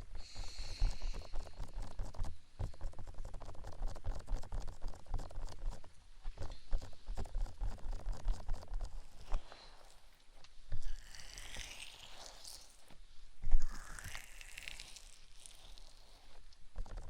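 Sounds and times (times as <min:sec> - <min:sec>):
hands rubbing on microphone: 0:00.3 - 0:17.0.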